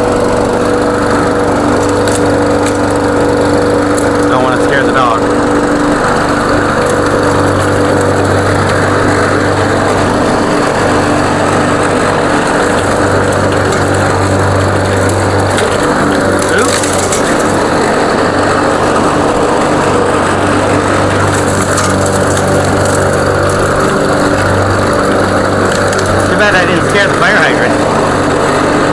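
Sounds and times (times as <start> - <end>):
lawn mower engine running: 0.0 - 28.9.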